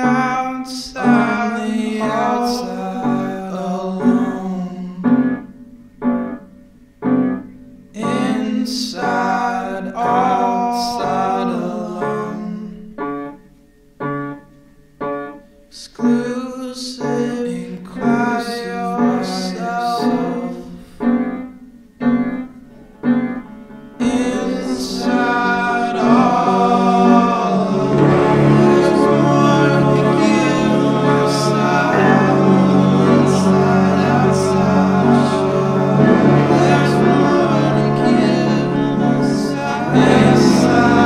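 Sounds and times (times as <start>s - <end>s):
person singing: 0.0s - 5.4s, 8.0s - 13.0s, 15.7s - 21.2s, 23.5s - 41.0s
piano: 0.0s - 41.0s.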